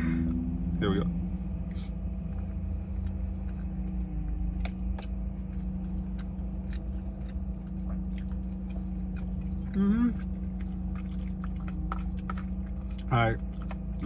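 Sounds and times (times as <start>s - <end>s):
low hum in car: 0.0s - 14.0s
man chewing food: 0.2s - 14.0s.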